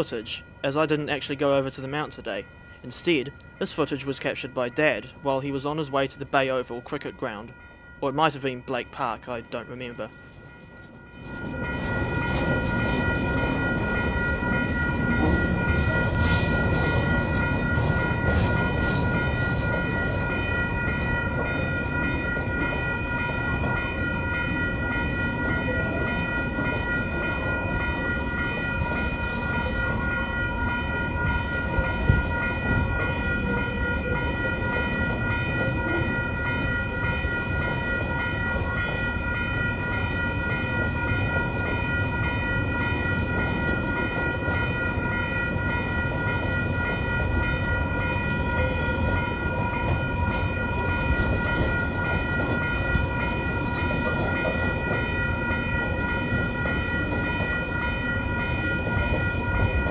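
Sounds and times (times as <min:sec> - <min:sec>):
level crossing warning bell: 0:00.0 - 0:59.9
train wheels rumbling on rail: 0:08.4 - 0:59.9.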